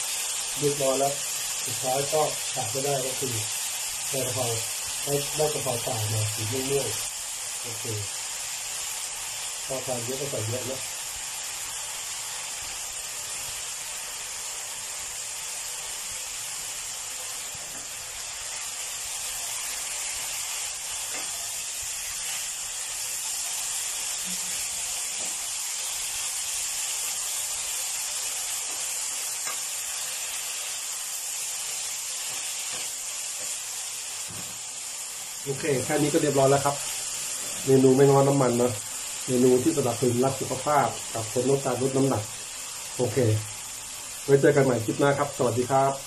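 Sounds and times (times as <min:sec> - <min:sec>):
food sizzling in a wok: 0:00.0 - 0:46.0.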